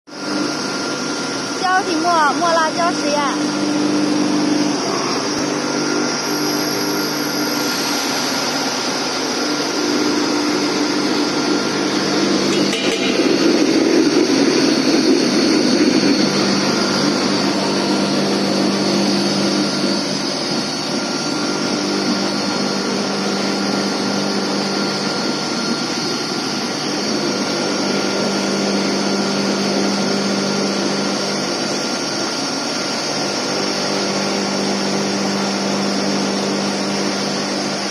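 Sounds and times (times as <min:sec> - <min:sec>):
mill motor humming with high whine: 0:00.1 - 0:37.9.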